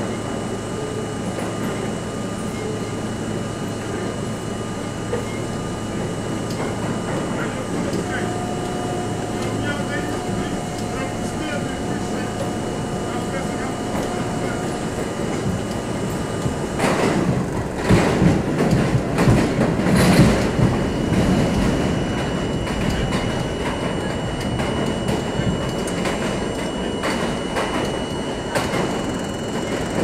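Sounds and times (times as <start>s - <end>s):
train wheels rumbling and clattering: 0.0s - 30.0s.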